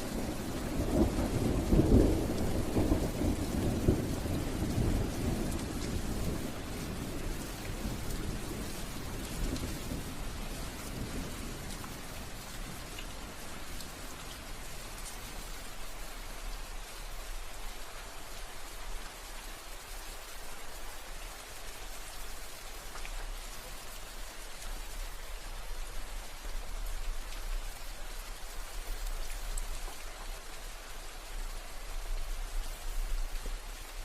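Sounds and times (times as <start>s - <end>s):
distinct raindrops: 0.0s - 34.0s
steady rain hiss: 0.0s - 34.0s.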